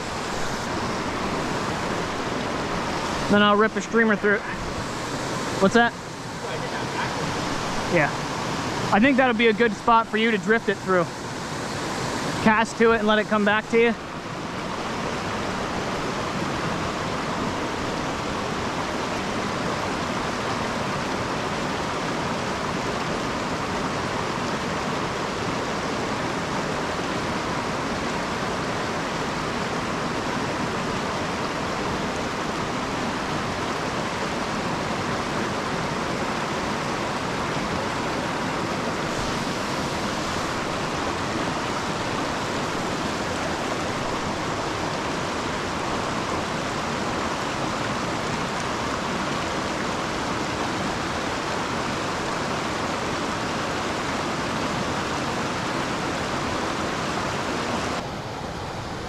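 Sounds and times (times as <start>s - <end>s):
creek running over rocks: 0.0s - 58.0s.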